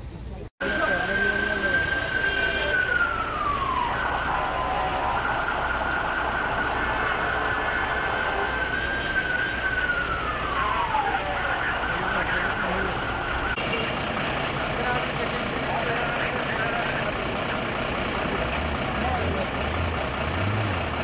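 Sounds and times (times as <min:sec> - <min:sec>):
emergency siren wailing: 0:00.6 - 0:21.0.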